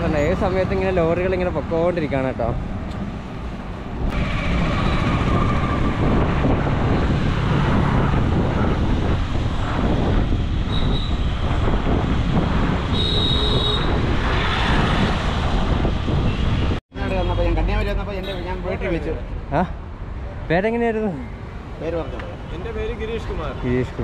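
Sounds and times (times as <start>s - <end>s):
heavy road traffic rumble: 0.0s - 24.0s.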